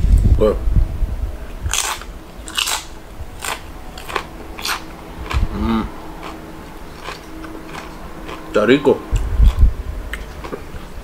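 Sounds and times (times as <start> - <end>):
chewing crunchy tortilla chip: 1.7 - 10.8.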